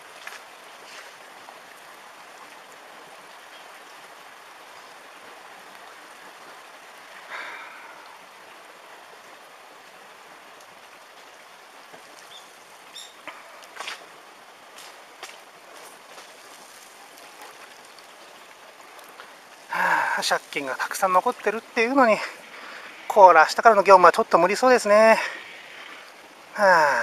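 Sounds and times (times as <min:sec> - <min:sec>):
floodwater rushing: 0:00.0 - 0:27.0.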